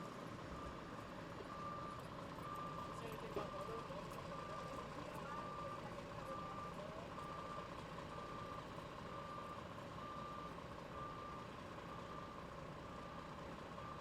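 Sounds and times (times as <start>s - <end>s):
reversing alarm beeping: 0.5s - 14.0s.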